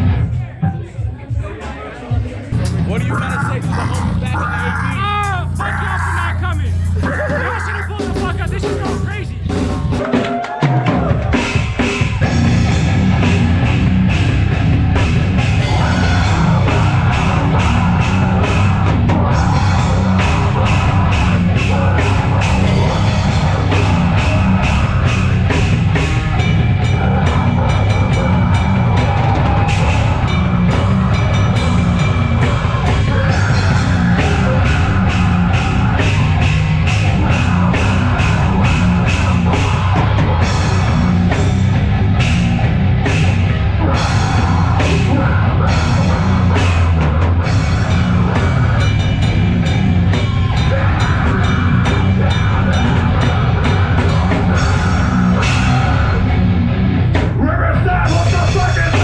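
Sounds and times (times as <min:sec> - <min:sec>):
live heavy rock music: 0:02.4 - 0:10.2, 0:11.0 - 0:59.0.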